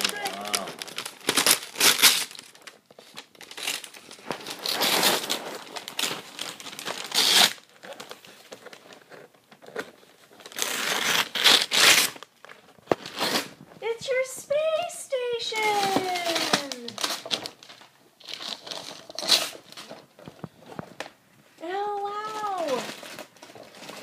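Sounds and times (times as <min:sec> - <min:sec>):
wrapping paper ripping and crumpling: 0:00.0 - 0:24.0.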